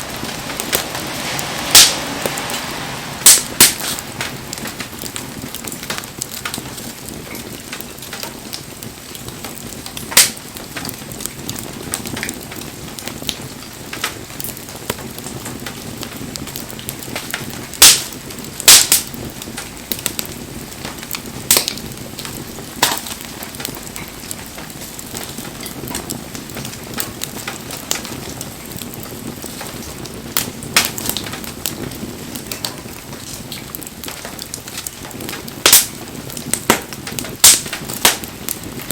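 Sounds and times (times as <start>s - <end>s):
bonfire crackling: 0.0s - 38.9s
burning logs popping: 0.0s - 38.9s.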